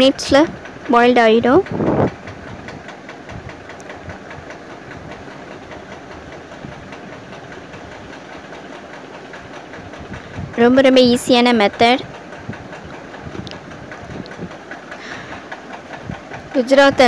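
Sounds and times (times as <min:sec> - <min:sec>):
fast irregular ticking: 0:00.0 - 0:17.0
water boiling with steam hiss: 0:00.0 - 0:17.0.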